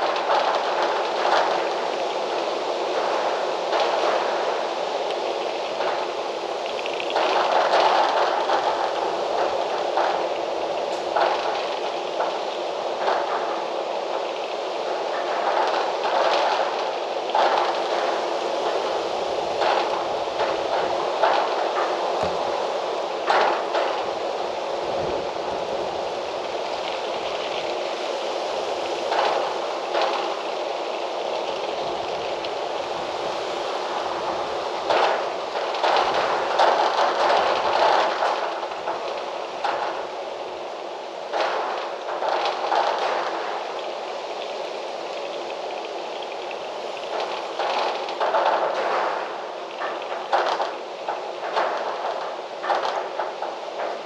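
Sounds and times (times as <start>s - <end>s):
strong wind through trees: 0.0s - 54.0s.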